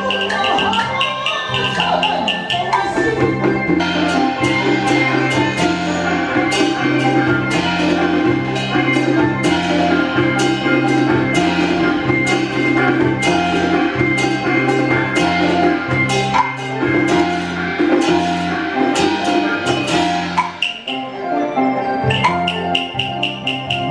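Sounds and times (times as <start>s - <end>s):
held bass notes: 0.0s - 21.1s, 22.1s - 23.9s
sharp percussion strikes: 0.0s - 21.3s, 22.0s - 23.9s.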